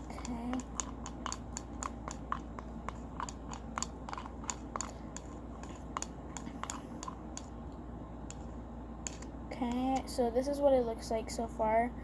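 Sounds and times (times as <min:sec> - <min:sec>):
sharp clicks of stirring: 0:00.0 - 0:10.1.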